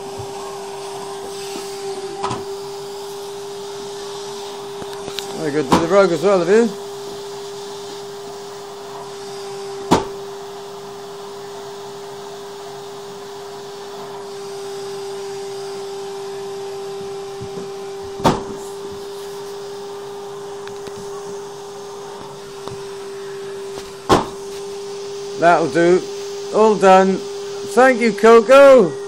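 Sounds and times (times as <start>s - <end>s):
vacuum cleaner humming: 0.0s - 29.0s.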